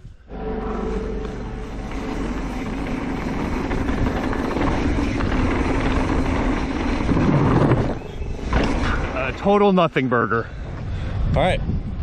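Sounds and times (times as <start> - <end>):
steady whirring hum: 0.0 - 10.8
bike tyre noise: 0.0 - 11.2
wind rushing over microphone: 1.0 - 12.0.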